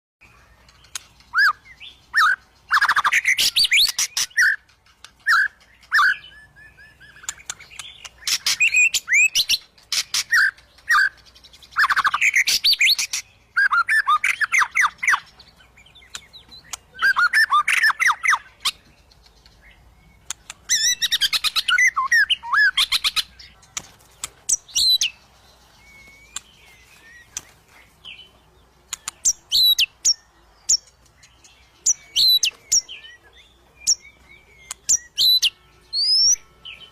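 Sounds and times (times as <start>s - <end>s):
bird singing whistled phrases: 0.2s - 23.5s, 25.8s - 27.5s, 28.9s - 30.9s, 31.5s - 36.9s.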